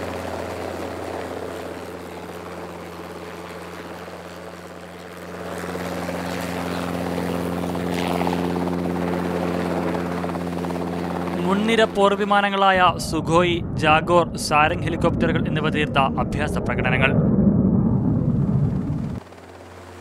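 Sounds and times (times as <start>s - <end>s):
helicopter engine and rotor hum: 0.0s - 20.0s.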